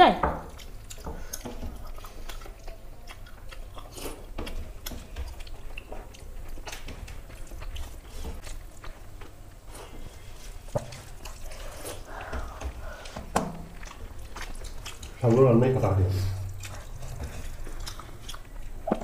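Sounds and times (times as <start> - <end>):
people chewing: 0.4 - 19.0.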